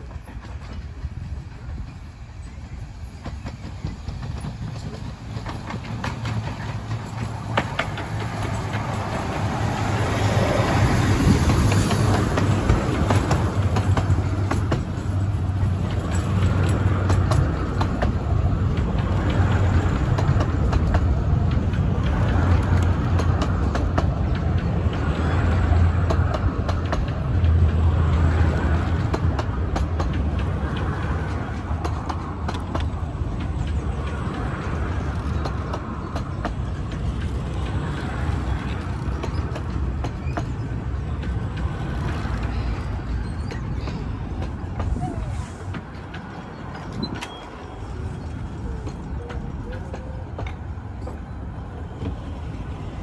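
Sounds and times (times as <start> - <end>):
steam train running past: 0.0 - 53.0
wheels clicking on rails: 0.0 - 53.0.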